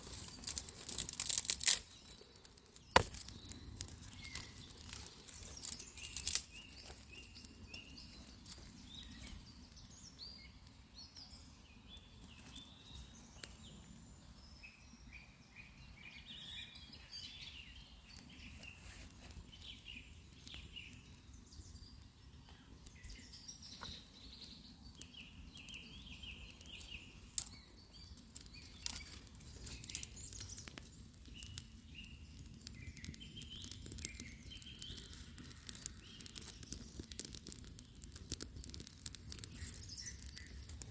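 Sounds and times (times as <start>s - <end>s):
birds chirping: 0.0s - 40.9s
low outdoor background: 0.0s - 40.9s.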